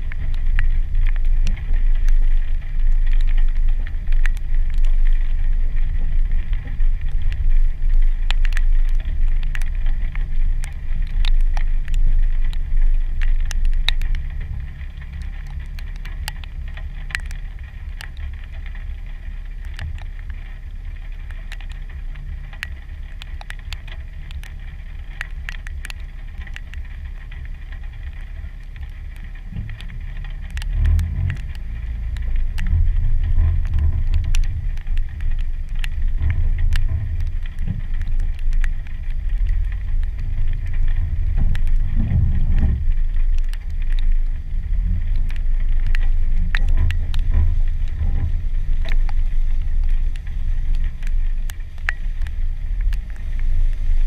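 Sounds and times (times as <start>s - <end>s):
car engine rumbling: 0.0s - 54.0s
raindrops ticking on camera housing: 0.0s - 54.0s.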